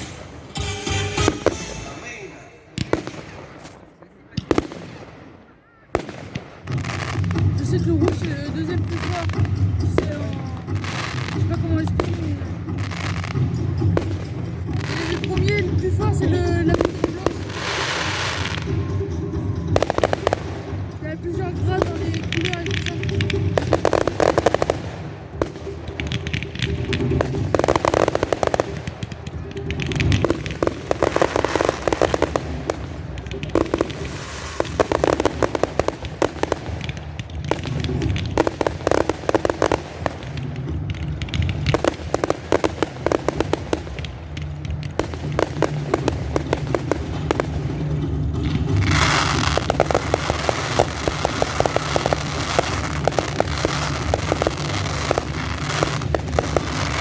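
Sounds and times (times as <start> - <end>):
fireworks crackling pops: 0.0 - 57.0.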